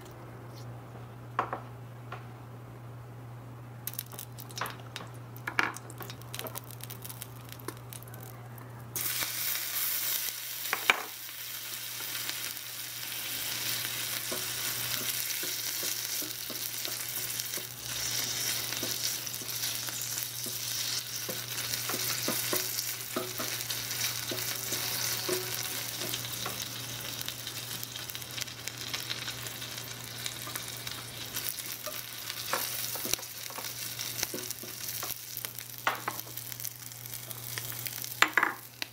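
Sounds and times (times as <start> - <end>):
shrimp sizzling in butter: 6.0 - 38.9.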